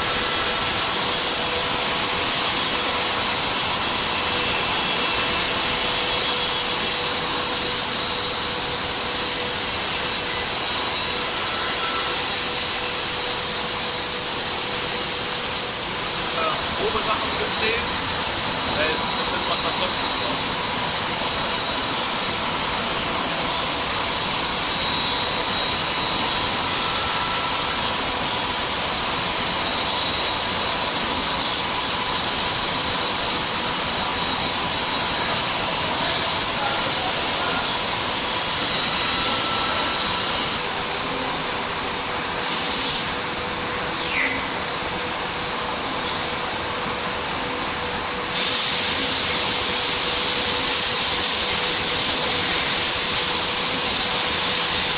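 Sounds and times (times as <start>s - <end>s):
cnc machine high-pitched whine: 0.0s - 54.9s
hiss: 0.0s - 54.9s.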